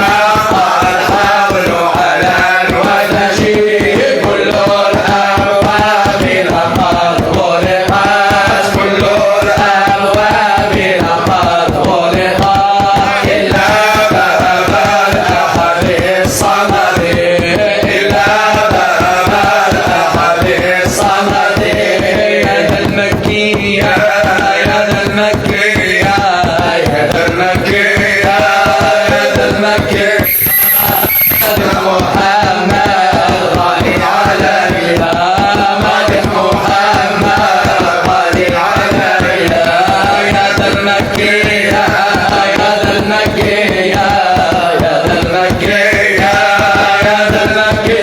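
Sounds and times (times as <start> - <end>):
devotional song: 0.0 - 48.0
hand percussion beat: 0.0 - 48.0.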